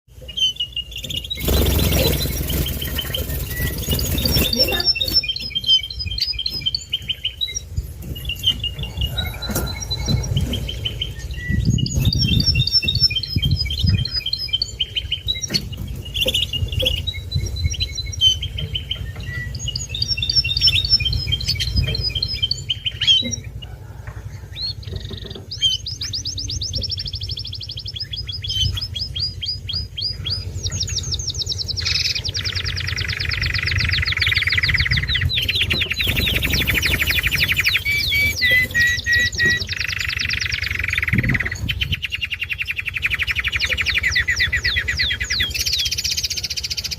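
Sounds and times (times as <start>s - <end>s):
canary singing: 0.1s - 46.9s.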